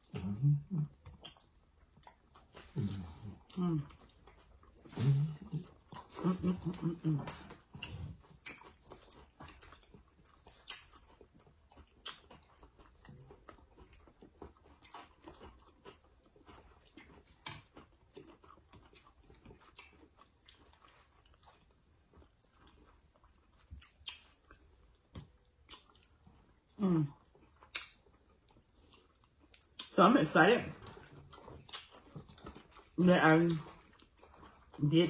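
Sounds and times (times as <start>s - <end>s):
faint chewing and eating: 0.0s - 35.0s.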